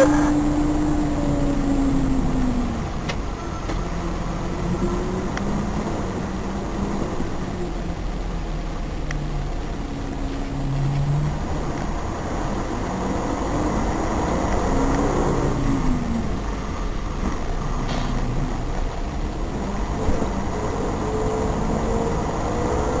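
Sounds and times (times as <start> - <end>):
low road rumble: 0.0 - 23.0
vehicle engines passing: 0.0 - 23.0.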